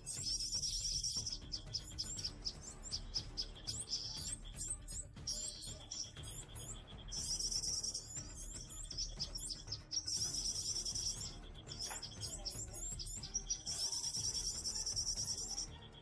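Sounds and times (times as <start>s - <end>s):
high rapid bird trill: 0.0s - 16.0s
small birds chirping: 0.0s - 16.0s.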